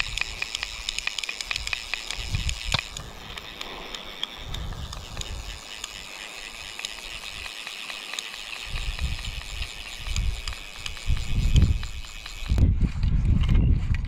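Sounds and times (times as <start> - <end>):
wind buffeting microphone: 0.0 - 7.6, 8.3 - 14.0
faint ticks: 0.0 - 12.7.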